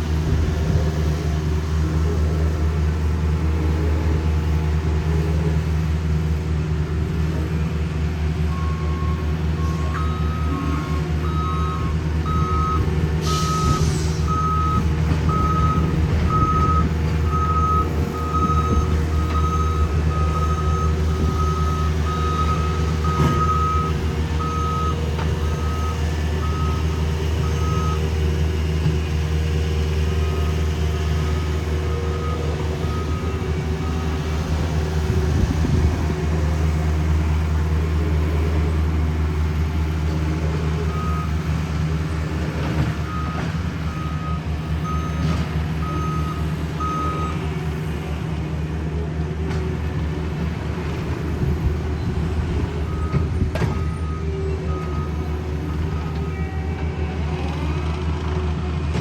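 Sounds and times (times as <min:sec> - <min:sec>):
diesel paving equipment running: 0:00.0 - 0:59.0.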